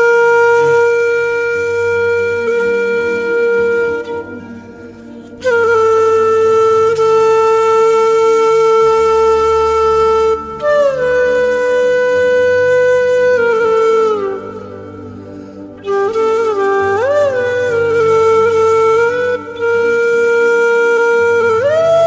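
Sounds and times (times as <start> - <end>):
soft low drone: 0.0 - 22.0
wind instrument long sliding notes: 0.0 - 22.0.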